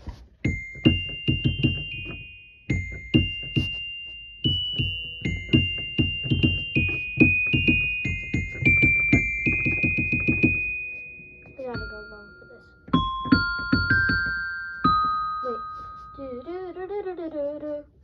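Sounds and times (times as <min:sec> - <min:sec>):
electric keyboard notes: 0:00.4 - 0:16.4.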